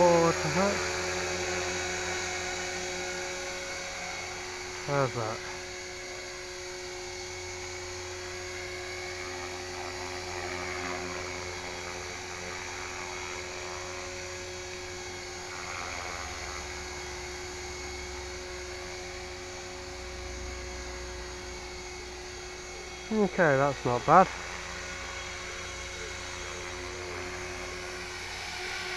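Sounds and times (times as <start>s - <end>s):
rc helicopter motor whine: 0.0s - 28.9s.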